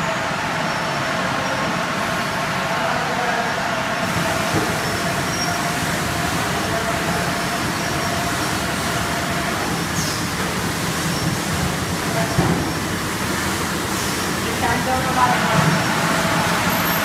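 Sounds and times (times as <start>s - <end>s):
machinery hum and hiss: 0.0s - 17.0s.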